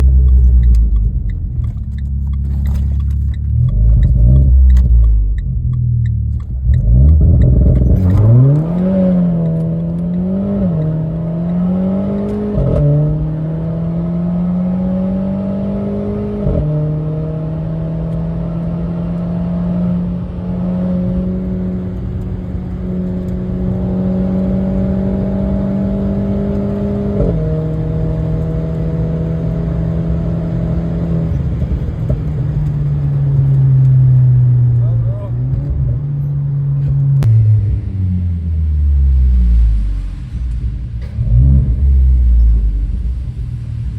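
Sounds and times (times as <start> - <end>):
car engine revving at full throttle: 0.0 - 5.7, 6.3 - 43.9.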